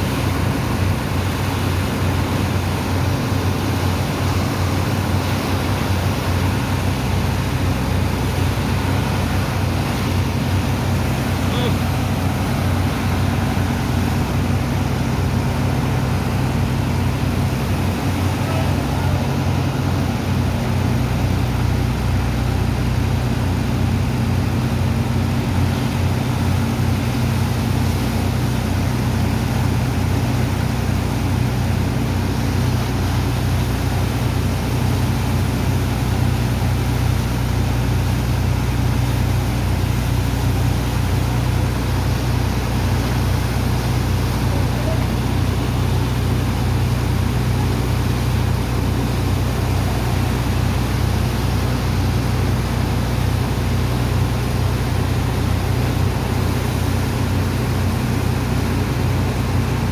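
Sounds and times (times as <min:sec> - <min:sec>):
engine and pump humming: 0:00.0 - 0:59.9.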